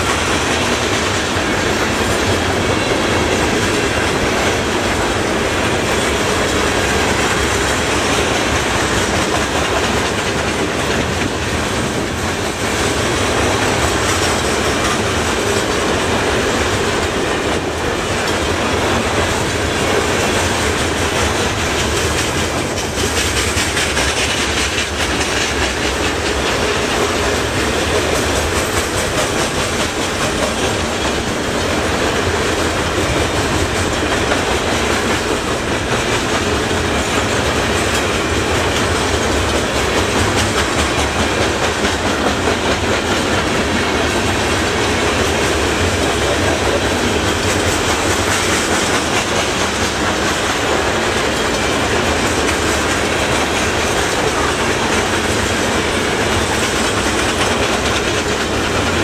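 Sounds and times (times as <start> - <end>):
train wheels clicking over rail joints: 0.0 - 59.0.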